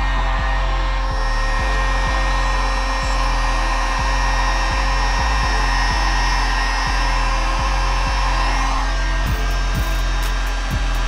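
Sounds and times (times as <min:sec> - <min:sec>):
faint steady hum: 0:00.0 - 0:11.0
heat gun fan blowing: 0:00.0 - 0:11.0.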